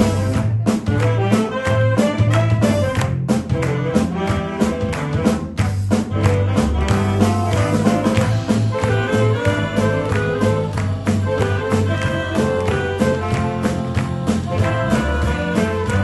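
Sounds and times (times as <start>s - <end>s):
brass section: 0.0s - 16.0s
drum kit beat: 0.0s - 16.0s
low bass line: 0.0s - 16.0s.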